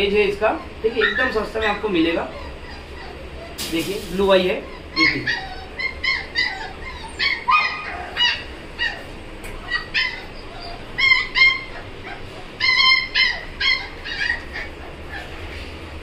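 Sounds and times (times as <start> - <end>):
puppies whining: 0.0 - 16.0.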